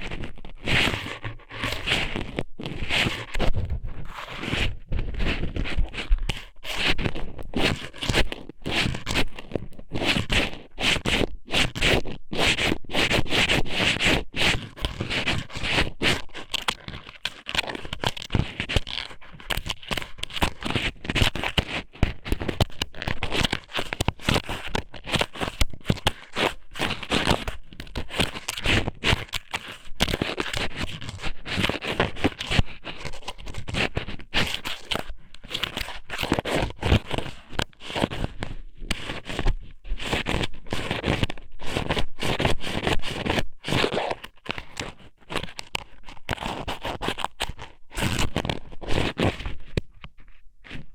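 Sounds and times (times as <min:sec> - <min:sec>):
squid strips scraping on microphone: 0:00.0 - 0:50.9.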